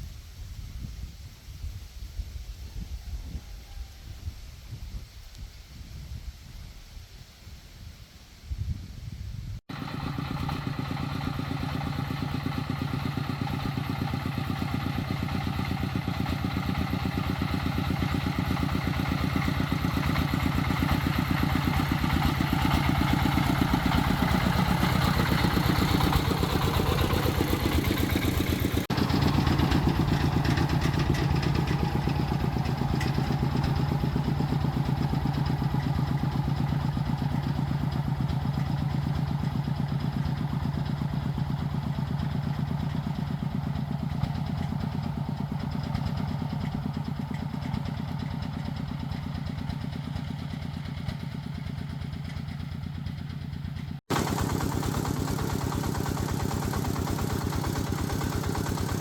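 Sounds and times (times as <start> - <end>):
diesel truck engine chugging: 9.7 - 59.0.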